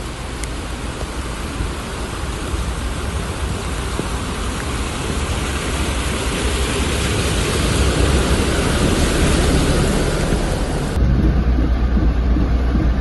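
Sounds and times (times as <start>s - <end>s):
bus driving through floodwater: 0.0s - 13.0s
heavy rain: 0.0s - 13.0s.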